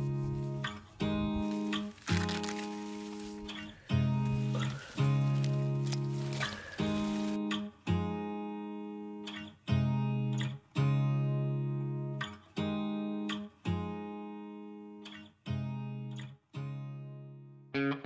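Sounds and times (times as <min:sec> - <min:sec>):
guitar chords strummed: 0:00.0 - 0:18.0.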